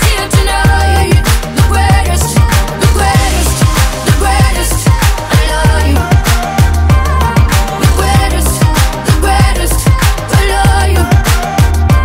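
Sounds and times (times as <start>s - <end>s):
deep kick drums: 0.0s - 12.0s
electronic pop music: 0.0s - 12.0s
sustained bass line: 0.0s - 12.0s.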